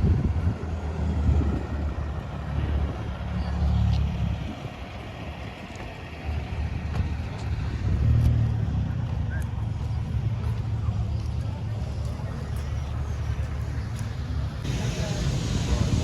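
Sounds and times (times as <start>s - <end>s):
deep car engine rumble: 0.0s - 16.0s.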